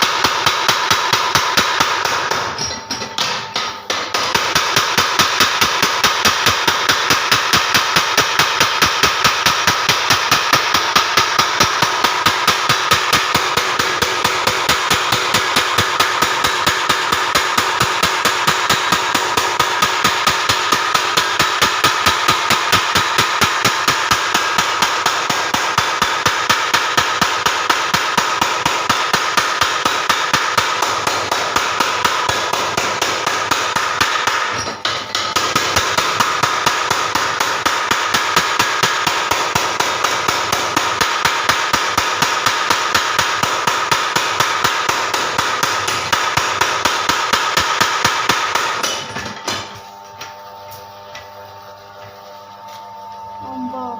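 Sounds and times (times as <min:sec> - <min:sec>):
power hammer striking: 0:00.0 - 0:51.3.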